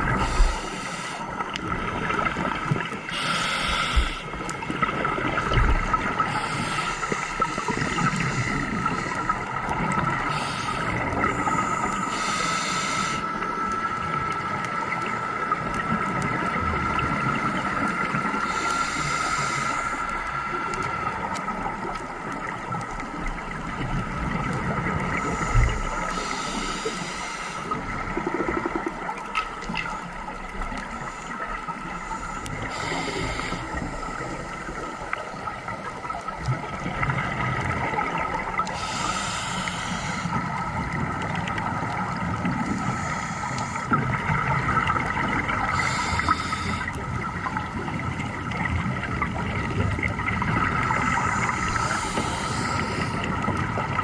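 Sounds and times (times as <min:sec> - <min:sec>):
underwater exhaled bubbles: 0:00.0 - 0:54.0.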